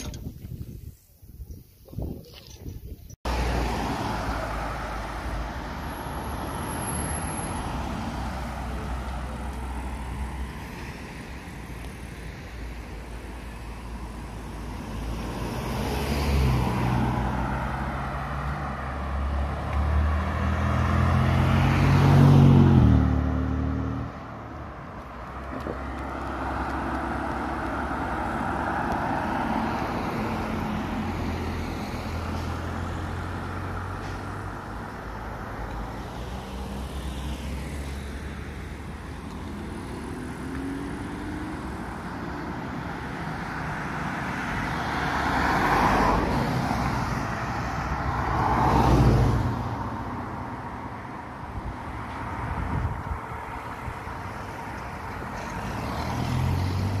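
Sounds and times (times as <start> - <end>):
cars driving past: 3.3 - 57.0.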